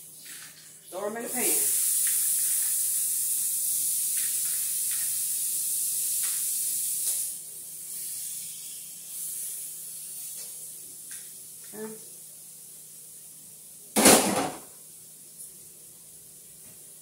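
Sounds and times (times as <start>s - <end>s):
shrimp sizzling in a pan: 0.0s - 13.9s.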